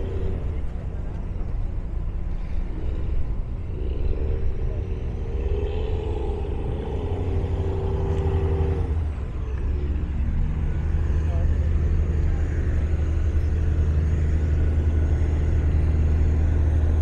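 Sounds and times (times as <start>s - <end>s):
heavy engines rumbling: 0.0s - 17.0s.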